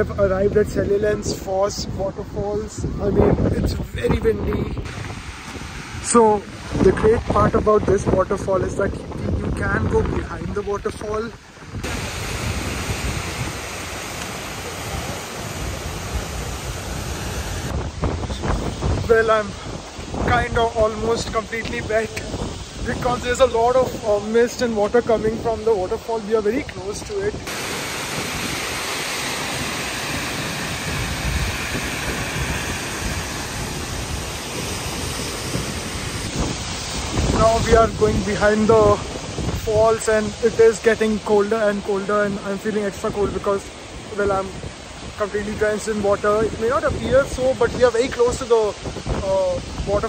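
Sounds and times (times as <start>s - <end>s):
wind on microphone: 0.0s - 50.0s
waterfall rushing: 4.3s - 8.8s, 10.3s - 50.0s.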